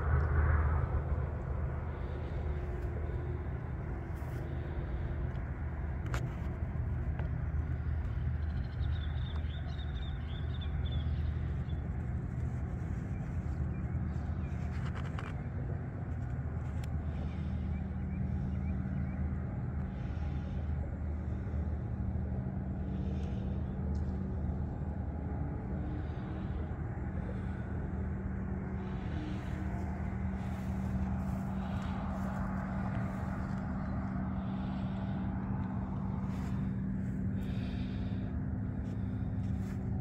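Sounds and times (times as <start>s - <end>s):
faint outdoor background noise: 0.0s - 40.0s
low mechanical hum: 0.0s - 40.0s.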